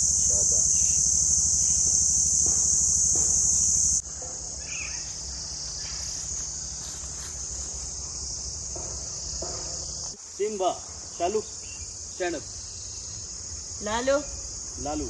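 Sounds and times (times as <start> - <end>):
insects singing: 0.0 - 15.0.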